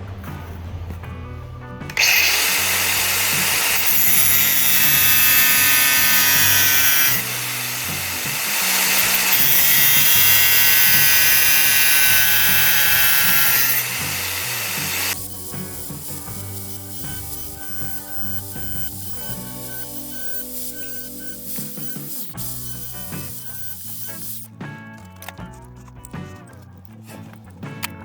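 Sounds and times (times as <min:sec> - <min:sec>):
power tool cutting metal pipe: 0:01.9 - 0:24.5.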